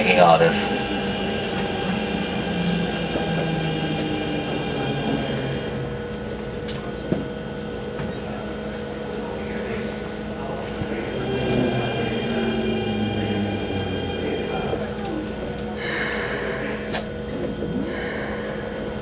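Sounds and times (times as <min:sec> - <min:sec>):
train equipment hum: 0:00.0 - 0:19.0.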